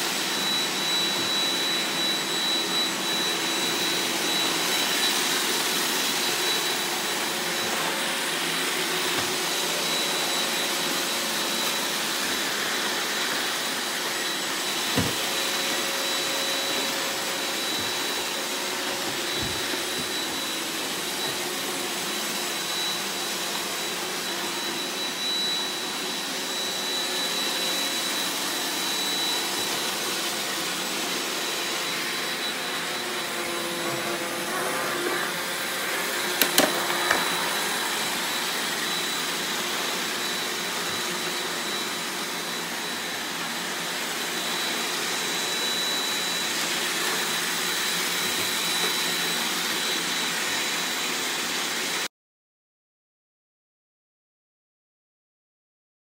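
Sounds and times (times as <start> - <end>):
robot vacuum cleaner running: 0.0 - 52.0.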